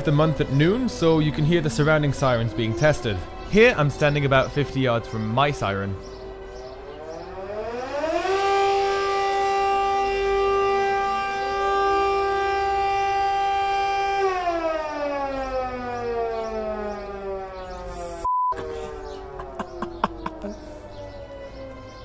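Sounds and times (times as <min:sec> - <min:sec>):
faint distant sirens: 0:00.0 - 0:22.0
mechanical air raid siren: 0:00.0 - 0:22.0.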